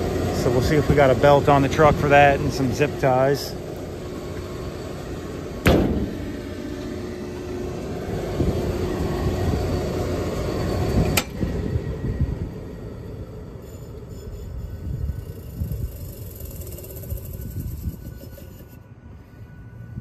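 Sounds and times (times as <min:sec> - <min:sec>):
hvac unit rumbling: 0:00.0 - 0:20.0.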